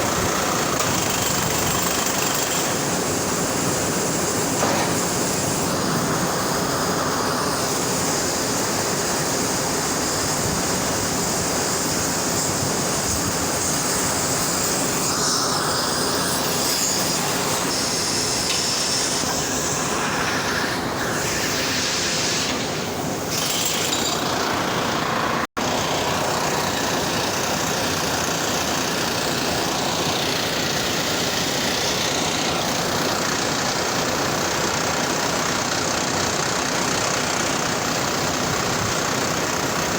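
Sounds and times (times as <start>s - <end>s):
loud industrial machinery roar: 0.0s - 39.9s.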